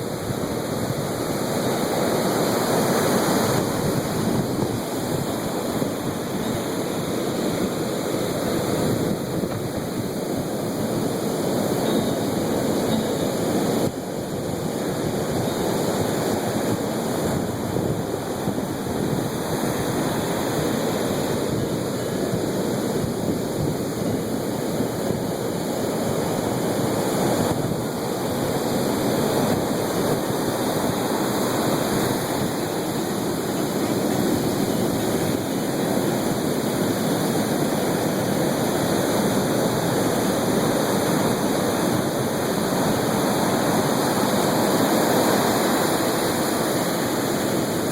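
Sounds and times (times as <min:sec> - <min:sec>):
ocean surf washing ashore: 0:00.0 - 0:47.9.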